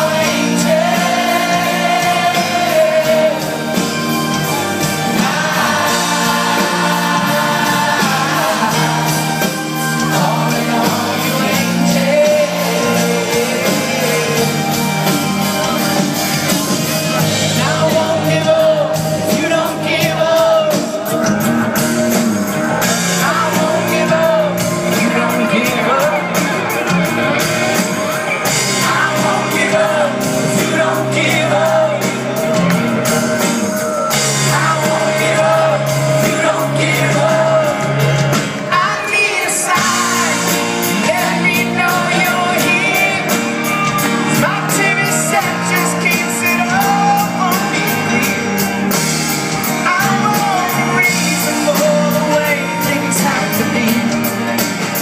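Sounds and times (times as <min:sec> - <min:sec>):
drums: 0:00.0 - 0:55.0
electric guitars: 0:00.0 - 0:55.0
lead singer: 0:00.0 - 0:55.0
live rock band: 0:00.0 - 0:55.0.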